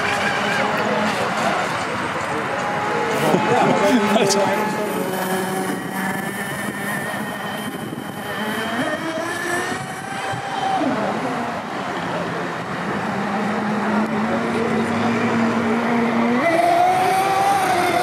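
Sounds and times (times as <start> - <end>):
boat motor whine: 0.0 - 18.0.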